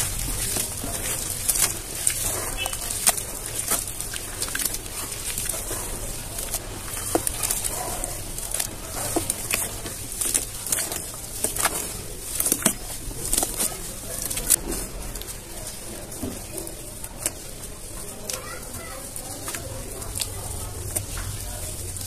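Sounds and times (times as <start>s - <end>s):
hands squelching wet cement: 0.0s - 22.0s.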